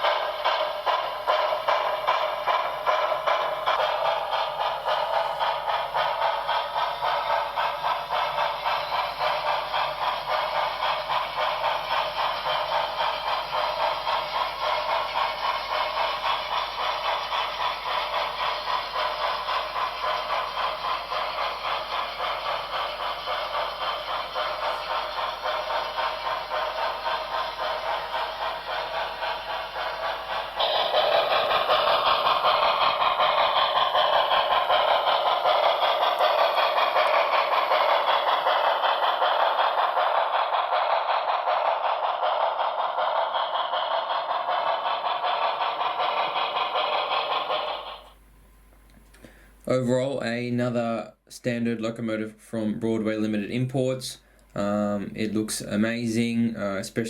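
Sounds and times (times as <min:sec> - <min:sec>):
model locomotive steam chuffing: 0:00.0 - 0:57.0.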